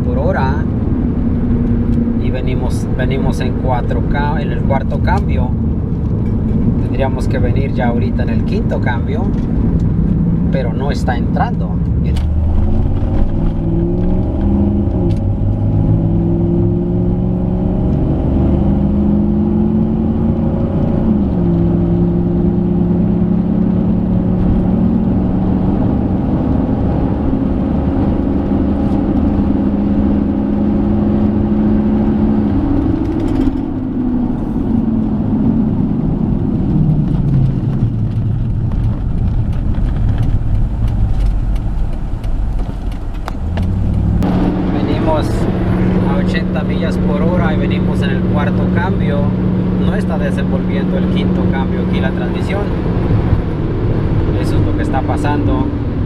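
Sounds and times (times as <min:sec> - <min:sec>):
car engine at highway speed: 0:00.0 - 0:56.0
road rumble: 0:00.0 - 0:56.0.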